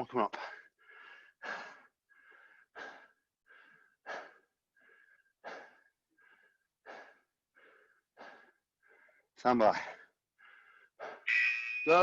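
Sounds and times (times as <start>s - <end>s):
heavy rapid breathing: 0.4s - 11.3s.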